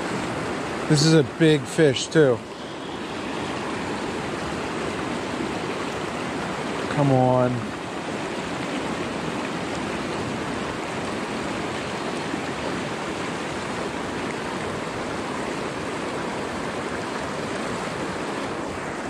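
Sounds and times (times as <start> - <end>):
water rushing over weir: 0.0 - 19.0.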